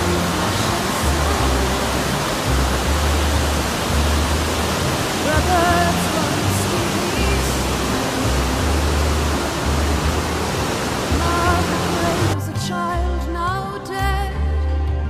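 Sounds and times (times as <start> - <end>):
person singing: 0.0 - 4.3, 4.9 - 10.0, 11.0 - 15.0
river roaring through rapids: 0.0 - 12.4
music: 0.0 - 15.0.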